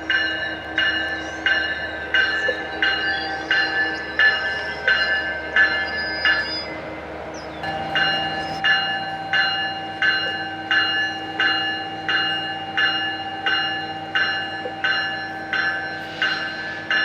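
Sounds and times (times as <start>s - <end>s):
low hum: 0.0s - 17.0s
railroad crossing bell ringing: 0.0s - 17.0s.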